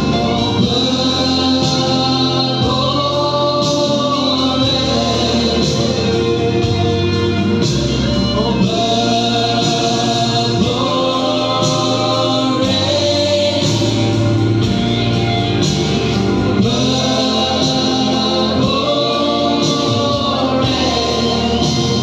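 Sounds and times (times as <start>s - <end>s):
choir singing: 0.0s - 22.0s
loud amplified backing music: 0.0s - 22.0s
man singing: 0.0s - 22.0s.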